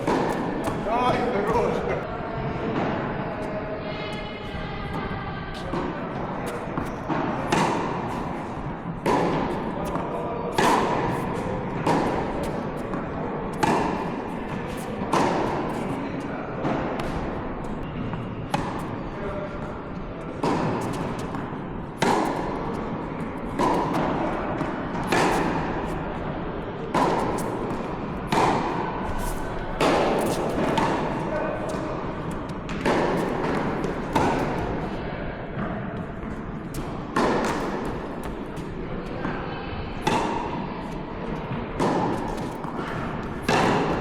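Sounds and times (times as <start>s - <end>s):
rackets hitting tennis ball: 0.0s - 44.0s
tennis ball bouncing: 0.0s - 44.0s.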